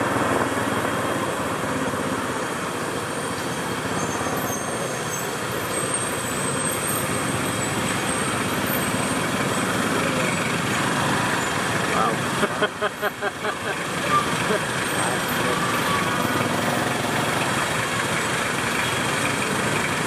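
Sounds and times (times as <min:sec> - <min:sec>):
dense city traffic: 0:00.0 - 0:20.0.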